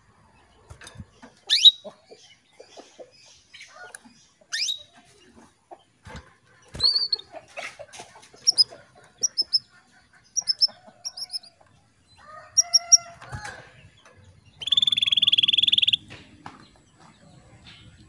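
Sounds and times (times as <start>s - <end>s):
canaries chirping and trilling: 0.3s - 18.0s.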